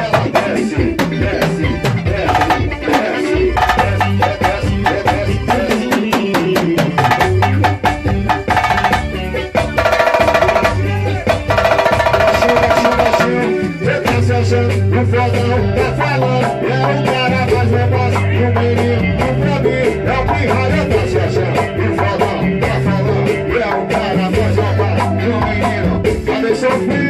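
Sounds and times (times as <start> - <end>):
band playing instrumental: 0.0 - 27.0
drums and percussion beat: 0.0 - 27.0.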